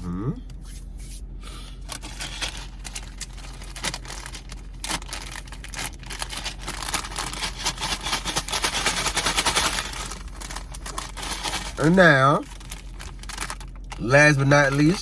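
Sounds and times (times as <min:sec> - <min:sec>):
plastic snack bag rustling: 0:01.9 - 0:15.0.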